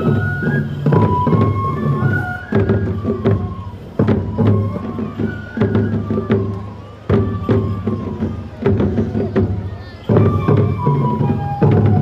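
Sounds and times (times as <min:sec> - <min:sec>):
bamboo flute playing held notes: 0:00.0 - 0:12.0.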